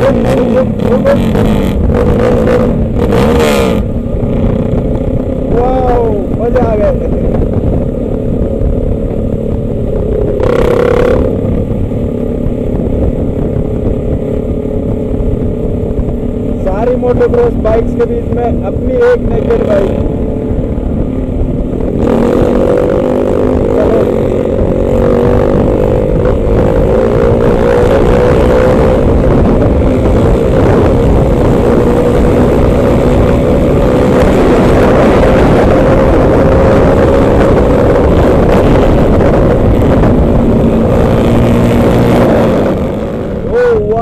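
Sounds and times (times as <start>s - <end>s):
motorcycle engine running: 0.0s - 44.0s
wind rumble on microphone: 0.0s - 44.0s.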